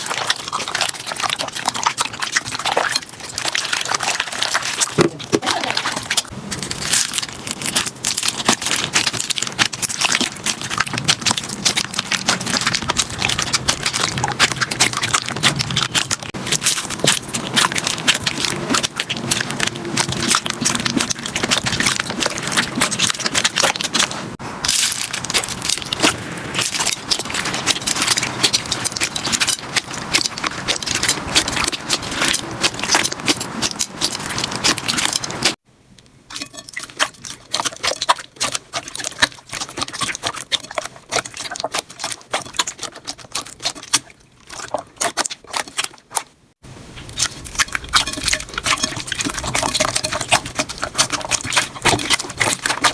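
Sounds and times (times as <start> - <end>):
slime crackling and popping: 0.0 - 35.6, 36.3 - 46.4, 47.1 - 52.9.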